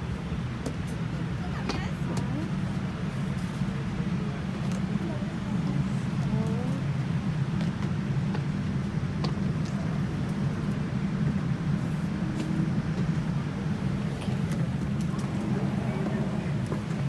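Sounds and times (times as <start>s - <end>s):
airliner cabin rumble: 2.8s - 17.0s.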